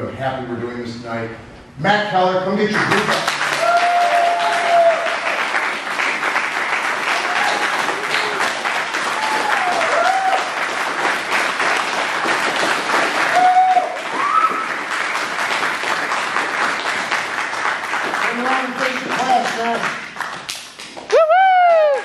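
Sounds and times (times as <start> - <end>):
crowd applauding: 2.7 - 22.0.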